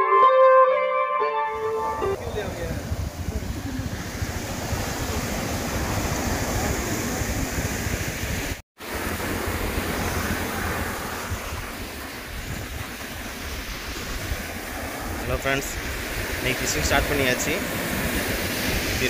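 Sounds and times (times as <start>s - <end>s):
surf washing: 1.6s - 19.0s
wind buffeting microphone: 2.1s - 8.6s, 9.5s - 19.0s.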